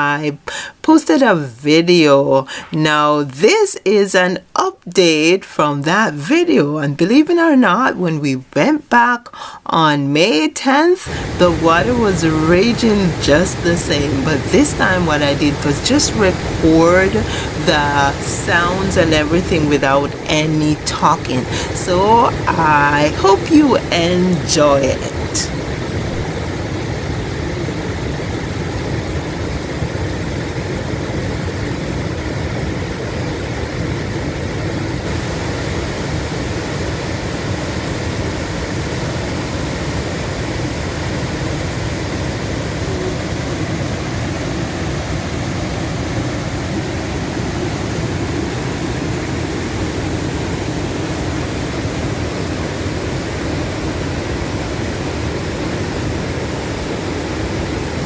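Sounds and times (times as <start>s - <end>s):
waterfall roaring: 11.0s - 58.0s.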